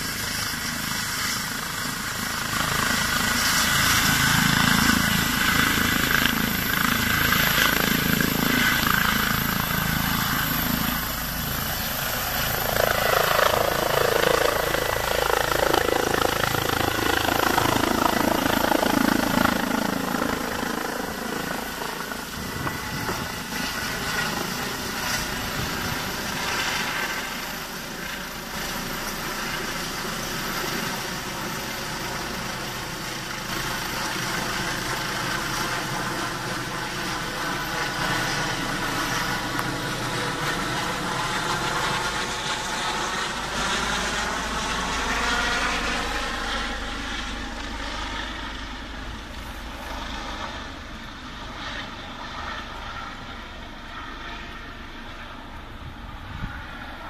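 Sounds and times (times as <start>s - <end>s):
helicopter turbines and rotor blades: 0.0s - 57.0s.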